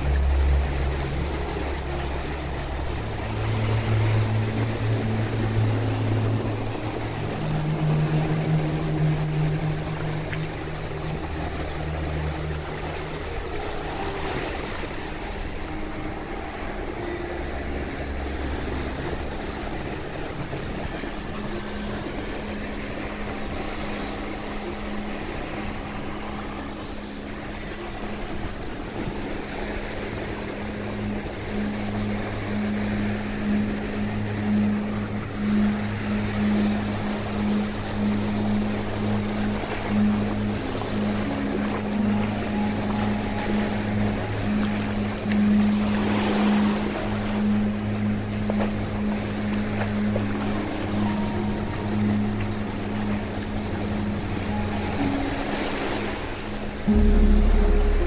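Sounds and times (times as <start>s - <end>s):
low steady drone: 0.0s - 58.0s.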